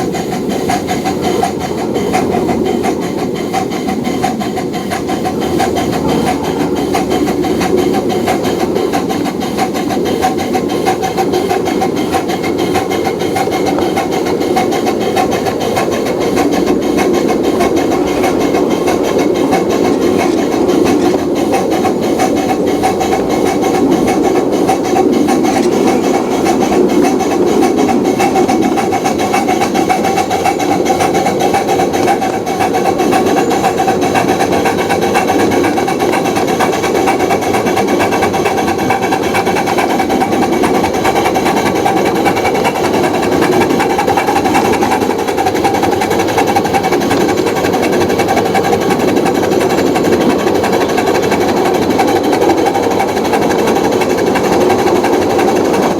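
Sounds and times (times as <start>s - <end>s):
rattle of train running gear: 0.0s - 55.9s.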